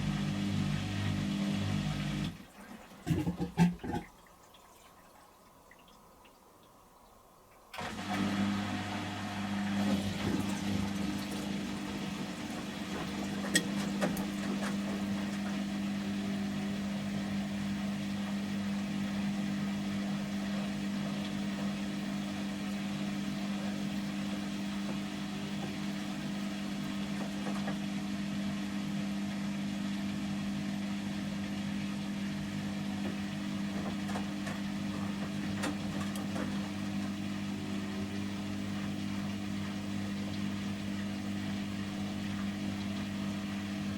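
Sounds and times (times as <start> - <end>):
water rushing through pump: 0.0 - 6.4, 7.7 - 43.9
drain pump humming: 0.0 - 43.9.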